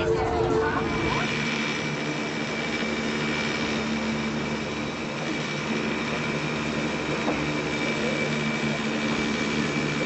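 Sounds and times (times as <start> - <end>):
cable car running on rails: 0.0 - 10.0
thin high whine: 0.0 - 10.0.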